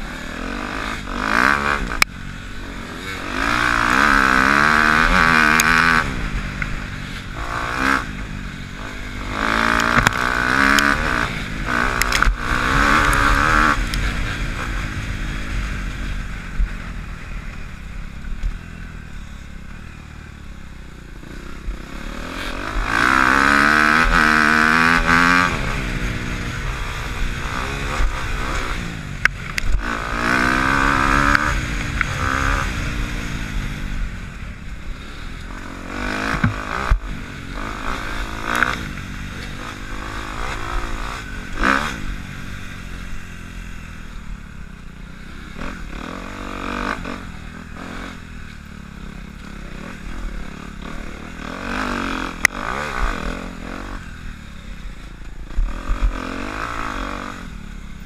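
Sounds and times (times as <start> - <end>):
dirt bike engine revving: 0.0 - 19.6, 20.3 - 58.0.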